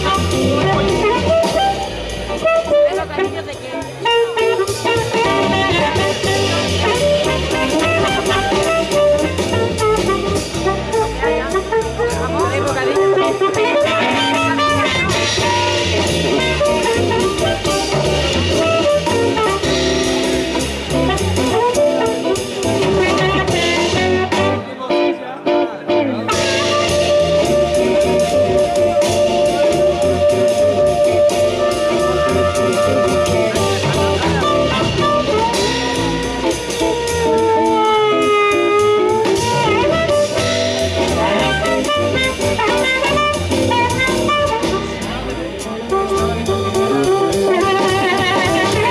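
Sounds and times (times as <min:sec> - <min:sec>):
blues band playing: 0:00.0 - 0:48.9.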